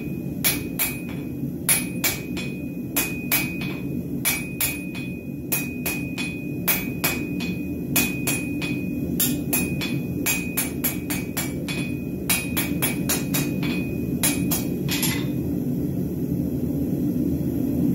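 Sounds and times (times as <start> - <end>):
anvil ringing: 0.0 - 15.4
low steady rumble: 0.0 - 17.9
hammer clanking on anvil: 0.5 - 15.4.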